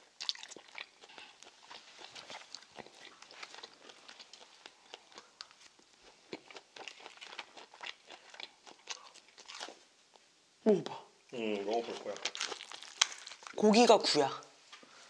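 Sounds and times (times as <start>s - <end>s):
crunchy chewing: 0.0s - 10.2s, 11.7s - 13.6s.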